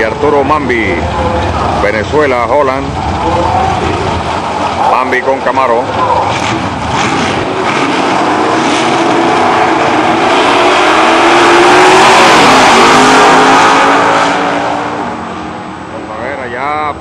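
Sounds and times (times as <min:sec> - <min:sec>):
drag racing engines revving: 0:00.0 - 0:17.0.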